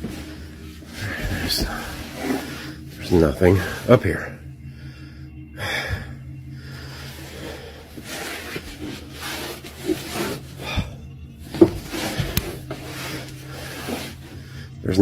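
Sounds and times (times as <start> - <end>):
rustling and handling noise: 0.0 - 4.6, 6.0 - 14.8
low steady hum: 0.0 - 15.0.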